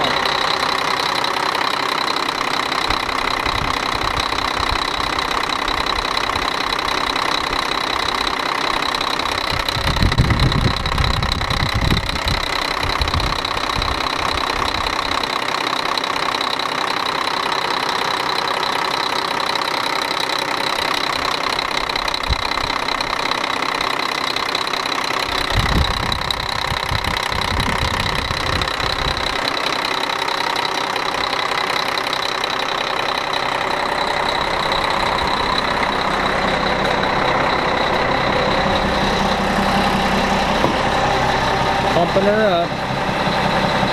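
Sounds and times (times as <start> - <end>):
diesel truck engine idling: 0.0 - 43.9
low engine rumbles: 0.0 - 43.9.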